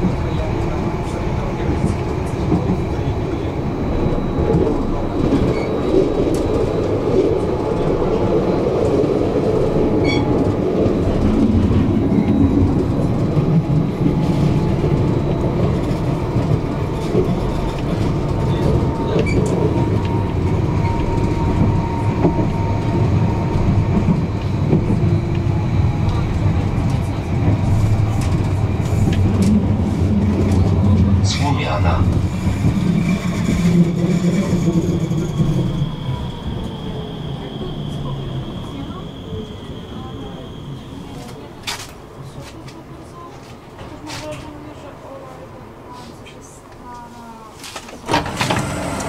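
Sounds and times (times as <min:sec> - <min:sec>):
tram wheels rumbling on rails: 0:00.0 - 0:49.0.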